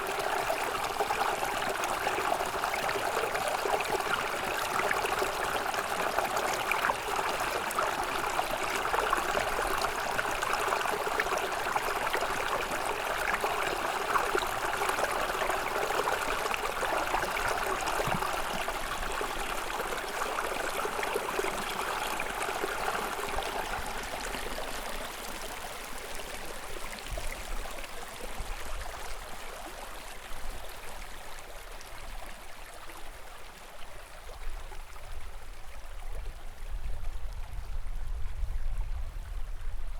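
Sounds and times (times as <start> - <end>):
stream babbling: 0.0 - 37.3.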